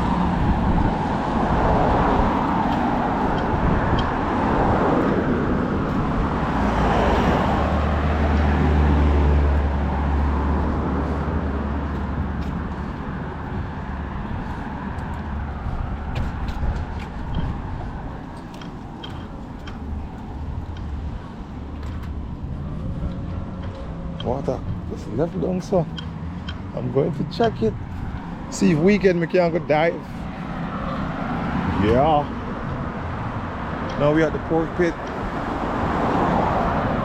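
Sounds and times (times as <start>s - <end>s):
cars passing on a street: 0.0s - 37.0s
low engine rumble: 0.0s - 37.0s.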